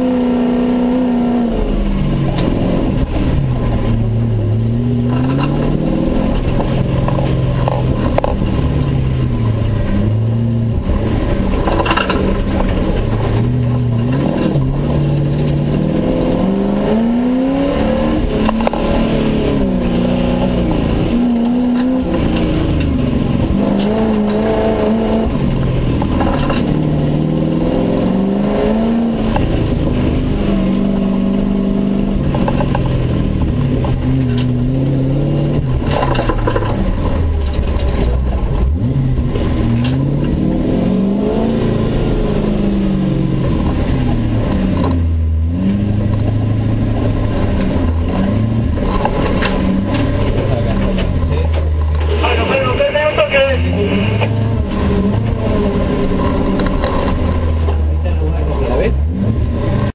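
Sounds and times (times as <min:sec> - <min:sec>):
car engine revving: 0:00.0 - 0:59.9
tyre and road rumble: 0:00.0 - 0:59.9.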